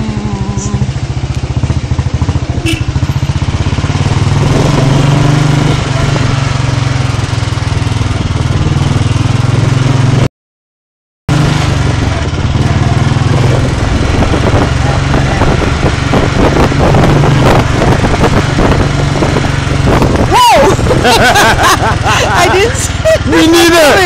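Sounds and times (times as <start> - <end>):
motorcycle engine running: 0.0 - 10.3, 11.3 - 24.0.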